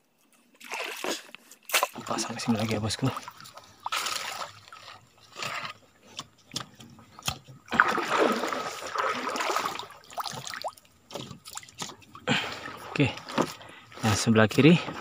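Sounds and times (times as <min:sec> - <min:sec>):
water splashing and sloshing: 0:00.1 - 0:15.0.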